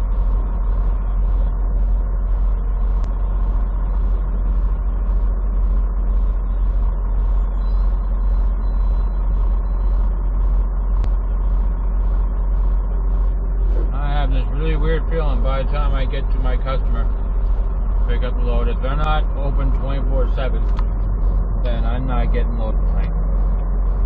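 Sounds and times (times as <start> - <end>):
faint regular ticking: 0.0 - 24.0
truck engine and road drone: 0.0 - 24.0.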